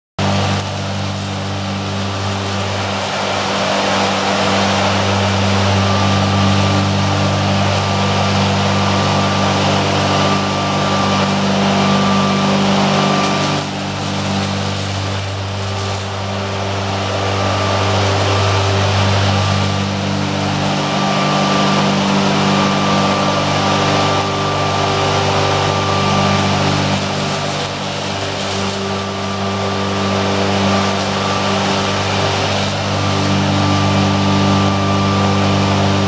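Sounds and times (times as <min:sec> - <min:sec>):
plant-trimming machine motors humming: 0:00.2 - 0:36.0.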